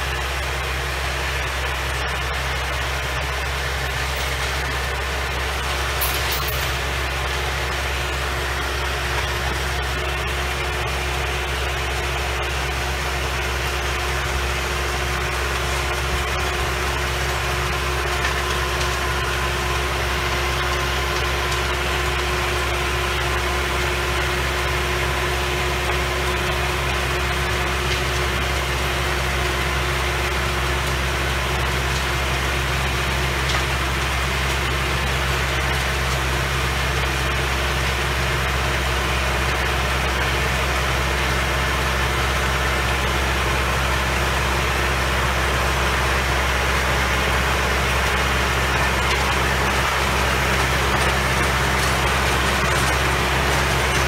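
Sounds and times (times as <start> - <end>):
rotary tiller churning soil: 0.0 - 54.0
tractor diesel engine running: 0.0 - 54.0.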